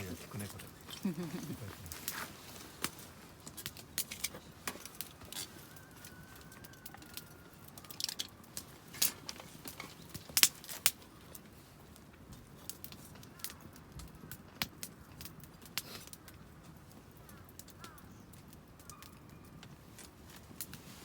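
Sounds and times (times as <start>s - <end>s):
sharp clicks and crackles: 0.0s - 20.8s.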